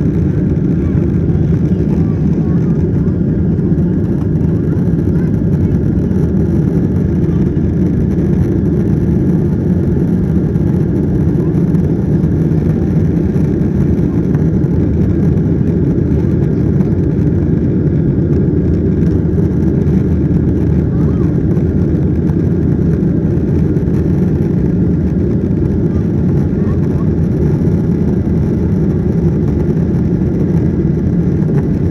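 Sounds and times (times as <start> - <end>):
airplane cabin rumble: 0.0 - 31.9.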